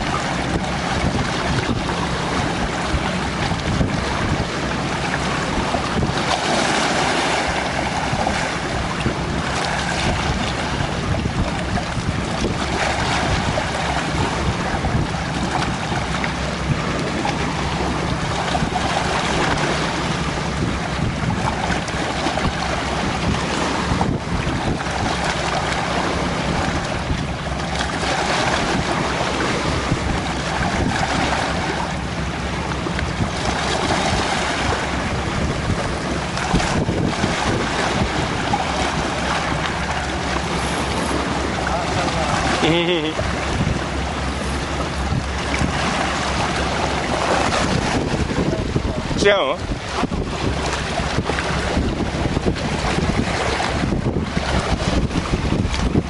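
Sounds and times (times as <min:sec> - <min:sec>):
lake water washing against rocks: 0:00.0 - 0:56.0
wind blowing across microphone: 0:00.0 - 0:56.0.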